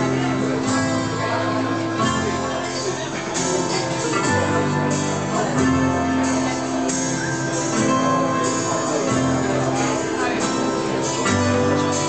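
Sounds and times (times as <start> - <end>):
acoustic guitar strumming: 0.0 - 12.0
mandolin: 0.0 - 12.0.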